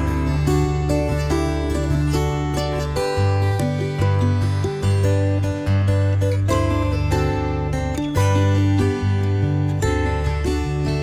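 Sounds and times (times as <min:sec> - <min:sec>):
plucked acoustic guitar: 0:00.0 - 0:11.0
steady bass line: 0:00.0 - 0:11.0.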